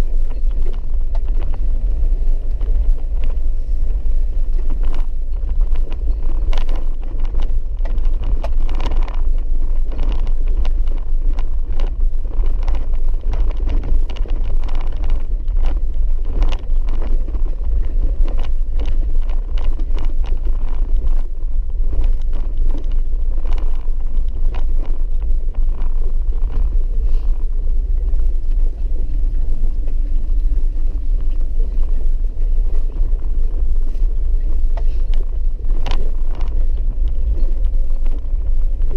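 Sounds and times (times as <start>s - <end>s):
vehicle driving on dirt road: 0.0s - 38.9s.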